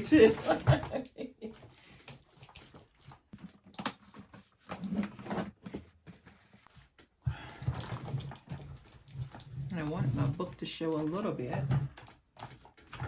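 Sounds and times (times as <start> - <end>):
craft materials clicking and rustling: 0.0 - 13.0.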